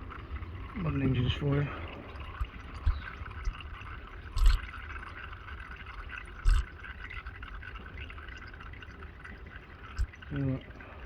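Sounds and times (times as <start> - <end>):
oil trickling into container: 0.0 - 11.0.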